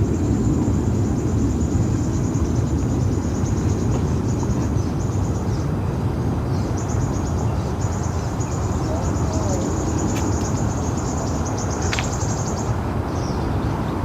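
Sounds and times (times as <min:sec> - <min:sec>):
insects trilling: 0:00.0 - 0:14.0
steady low rumble: 0:00.0 - 0:14.0.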